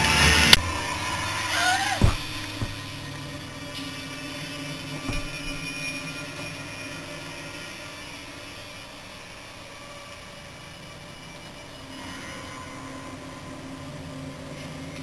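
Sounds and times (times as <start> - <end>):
ambient film soundtrack drone: 0.0 - 15.0.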